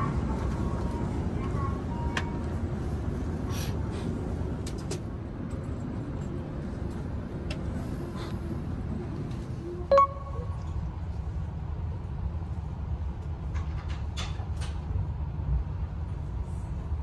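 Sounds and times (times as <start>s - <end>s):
train interior low hum: 0.0s - 17.0s.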